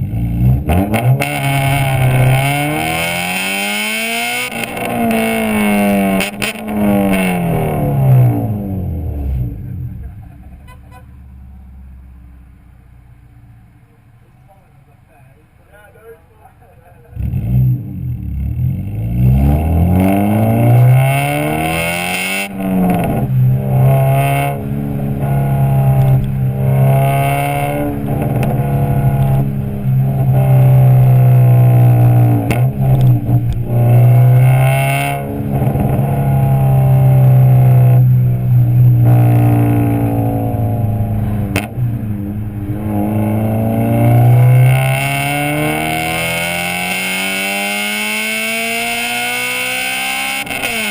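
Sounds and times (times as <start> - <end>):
car engine revving: 0.0 - 13.8, 17.0 - 50.9.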